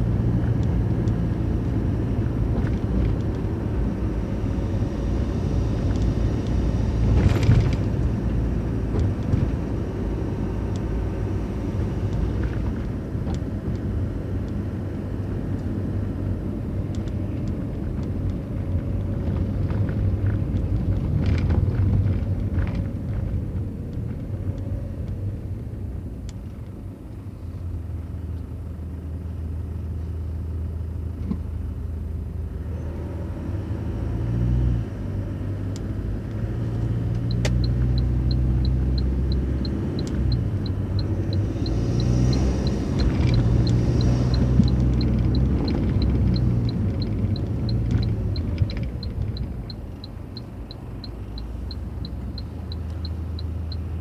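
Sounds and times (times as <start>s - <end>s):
tyre and engine rumble: 0.0s - 54.0s.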